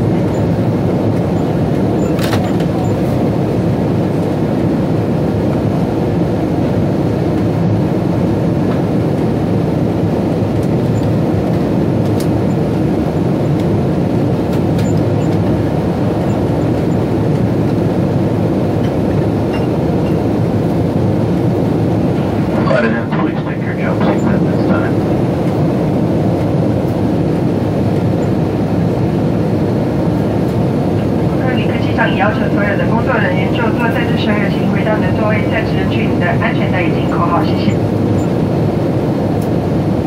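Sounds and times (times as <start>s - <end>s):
airliner cabin engine rush: 0.0s - 40.0s.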